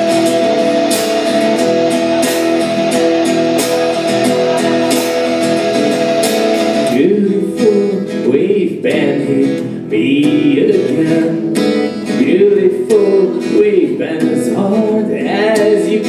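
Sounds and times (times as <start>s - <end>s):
bass guitar: 0.0s - 16.0s
electric guitar: 0.0s - 16.0s
strummed acoustic guitar: 0.0s - 16.0s.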